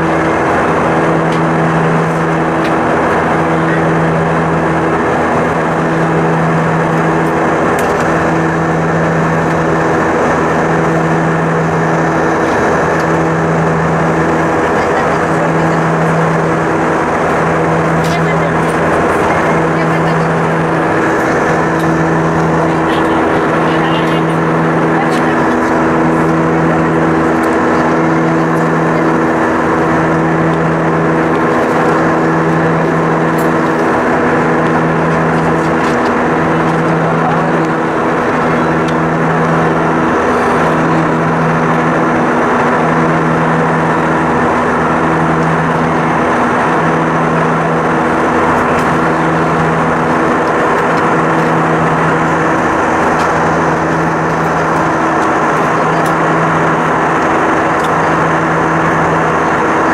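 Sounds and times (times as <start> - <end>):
jet engine noise in cabin: 0.0 - 59.9
low pulsing hum: 0.0 - 59.9.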